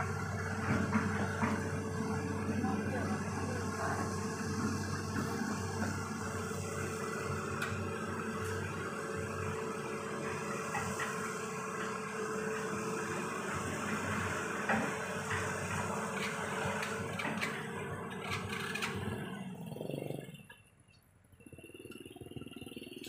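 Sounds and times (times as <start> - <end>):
engines humming: 0.0 - 23.0.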